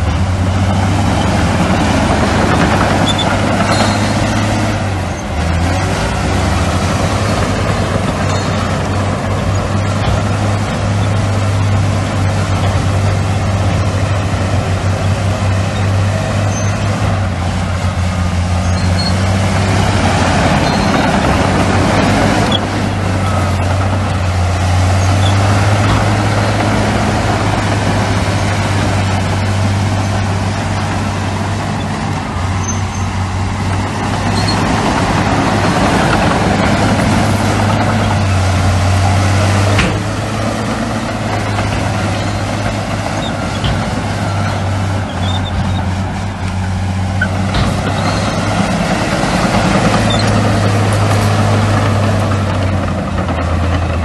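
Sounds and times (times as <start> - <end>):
heavy diesel machinery engine hum: 0.0 - 54.0.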